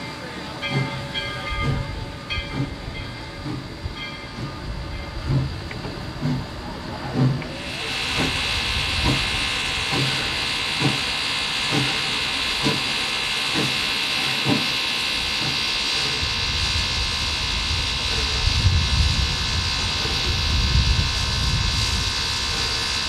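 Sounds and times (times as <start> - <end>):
regular knocking of train: 0.0 - 23.0
steam hissing: 0.0 - 23.0.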